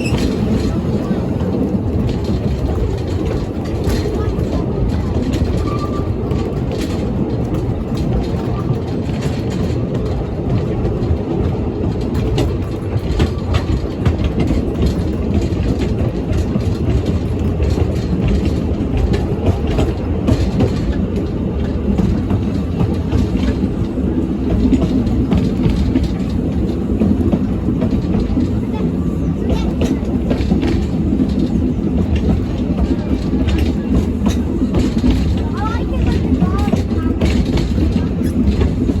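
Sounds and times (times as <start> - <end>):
rail joint clicks: 0.0 - 39.0
train wheels rumbling on track: 0.0 - 39.0.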